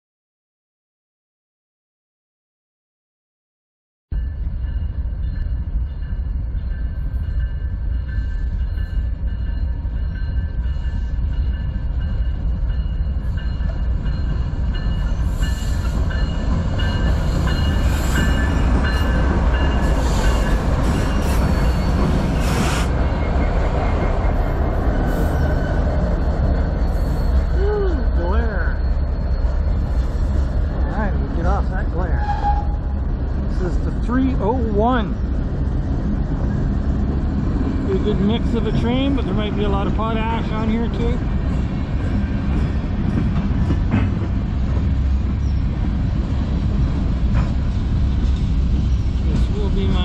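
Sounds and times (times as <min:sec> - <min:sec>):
diesel locomotives rumbling: 0:04.1 - 0:50.0
train clattering on rails: 0:04.2 - 0:50.0.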